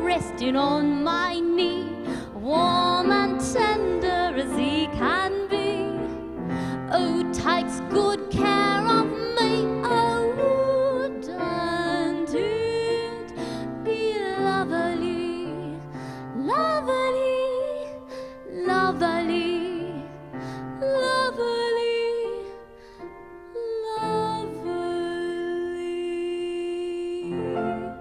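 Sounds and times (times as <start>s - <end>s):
woman singing: 0.0s - 22.8s, 23.4s - 28.0s.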